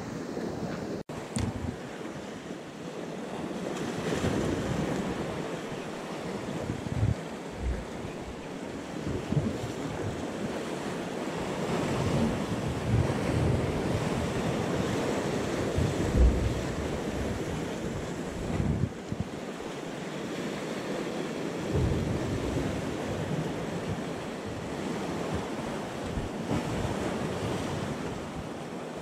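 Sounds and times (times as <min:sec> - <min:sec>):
wind buffeting microphone: 0:00.0 - 0:02.2, 0:03.3 - 0:19.8, 0:21.0 - 0:29.0
sea waves splashing on concrete: 0:00.5 - 0:02.5, 0:03.3 - 0:29.0.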